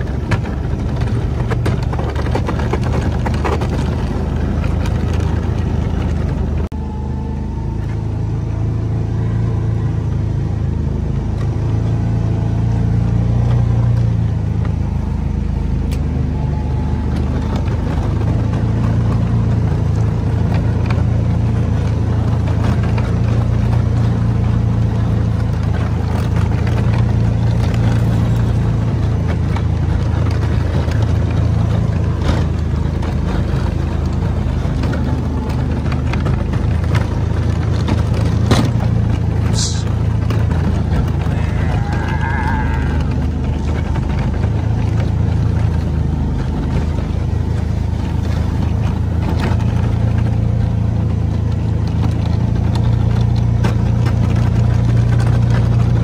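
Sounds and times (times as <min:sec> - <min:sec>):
utility vehicle engine under load: 0:00.0 - 0:56.0.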